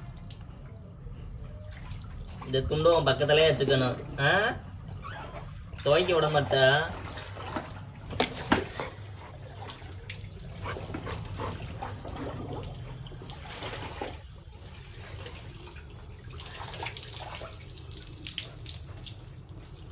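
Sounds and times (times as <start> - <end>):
water splashing: 1.6 - 19.9.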